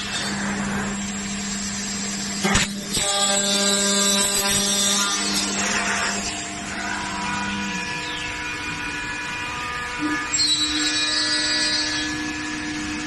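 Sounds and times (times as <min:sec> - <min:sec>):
harsh metal cutting noise: 0:00.0 - 0:13.0
machine spindle whine: 0:00.0 - 0:13.0.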